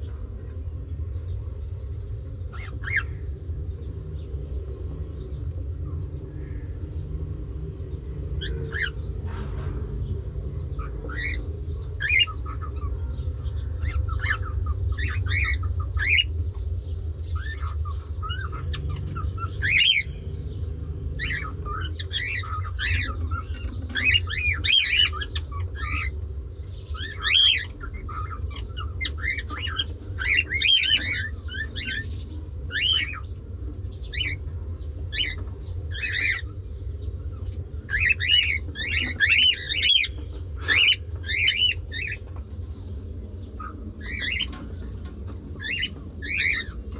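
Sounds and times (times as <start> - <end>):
steady low hum: 0.0 - 46.9
cockatiels chirping and squawking: 2.3 - 3.6, 8.4 - 9.9, 10.6 - 46.9.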